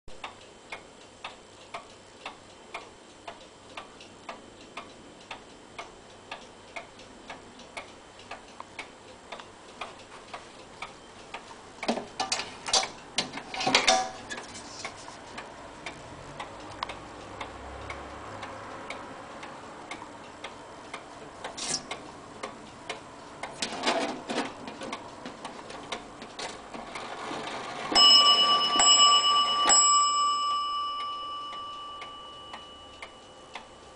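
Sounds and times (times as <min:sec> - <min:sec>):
pendulum clock ticking: 0:00.2 - 0:14.5, 0:15.4 - 0:23.6, 0:27.9 - 0:33.9
clock striking the hour: 0:00.2 - 0:33.9.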